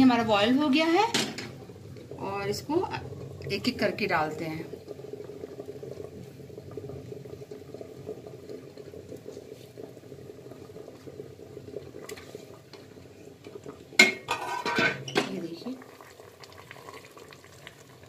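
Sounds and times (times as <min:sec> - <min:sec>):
water boiling: 0:00.0 - 0:18.0.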